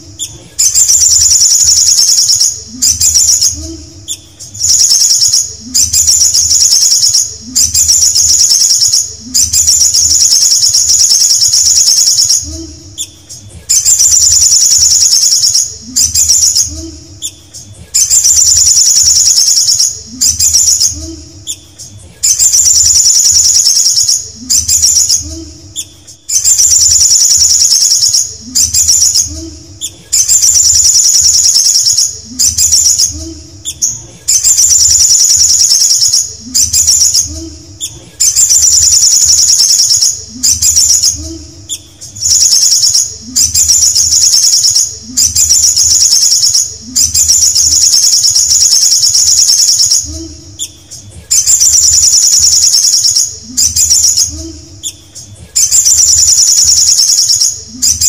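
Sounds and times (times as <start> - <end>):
bird trilling song: 0.0 - 58.0.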